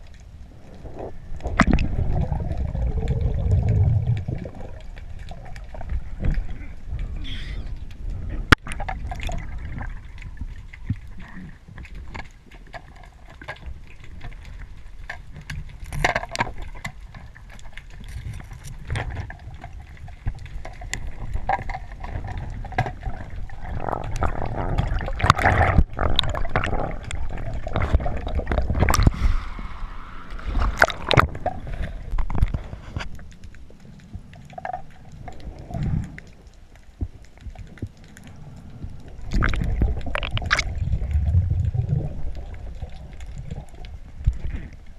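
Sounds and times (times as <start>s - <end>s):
underwater rushing and gurgling: 0.0s - 44.9s.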